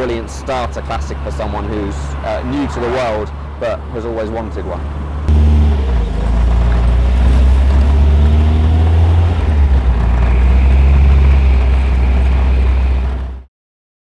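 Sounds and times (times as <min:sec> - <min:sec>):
car engine rumbling: 0:00.0 - 0:13.5.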